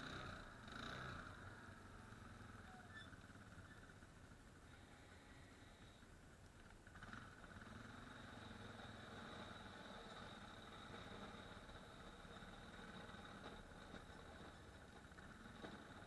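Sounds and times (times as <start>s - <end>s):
faint atv engine running: 0.0s - 16.0s.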